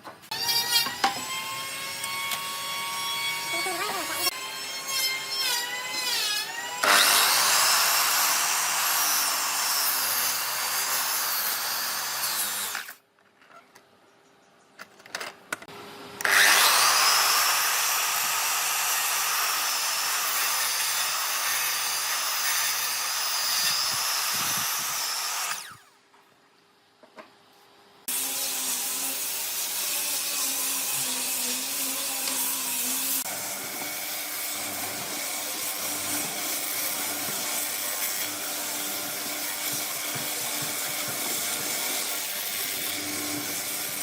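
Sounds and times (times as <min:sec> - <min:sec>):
power tool cutting wood: 0:00.3 - 0:13.0, 0:16.2 - 0:25.9, 0:28.1 - 0:44.0.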